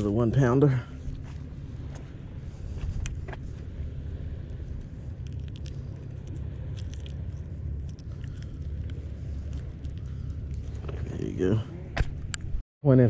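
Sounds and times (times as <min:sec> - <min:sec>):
low rumble: 0:00.0 - 0:12.6.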